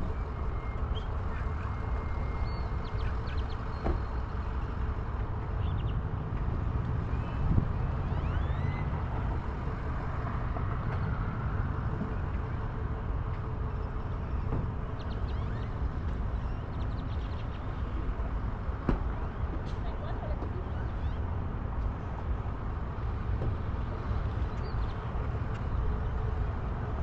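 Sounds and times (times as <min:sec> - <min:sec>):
road and wind rumble: 0:00.0 - 0:27.0.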